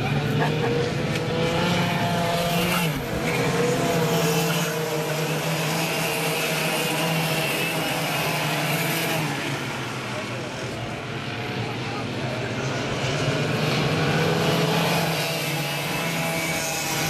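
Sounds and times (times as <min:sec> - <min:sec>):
kart engines buzzing: 0:00.0 - 0:17.0.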